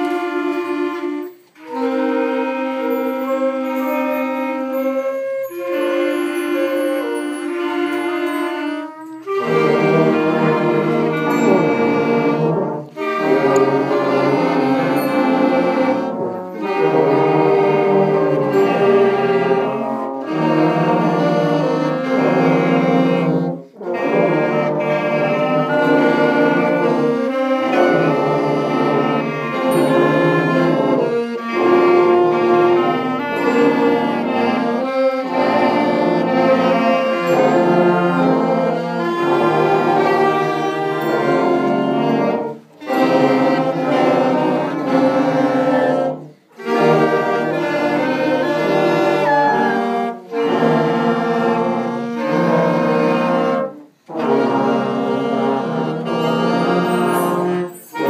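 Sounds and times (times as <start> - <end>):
wind band playing held chords: 0.0 - 58.0.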